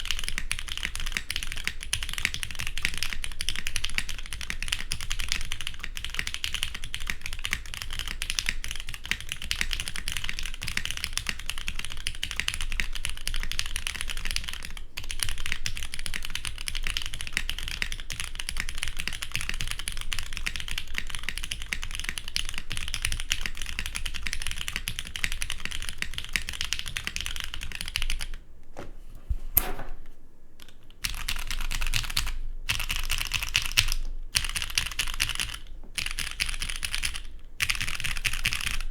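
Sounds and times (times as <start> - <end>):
fast typing on mechanical keyboard: 0.0 - 28.4, 30.6 - 38.9.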